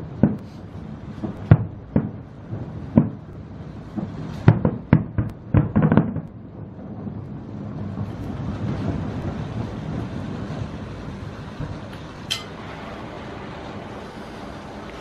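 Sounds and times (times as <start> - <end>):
fireworks bangs: 0.0 - 15.0
low rumble: 0.0 - 15.0.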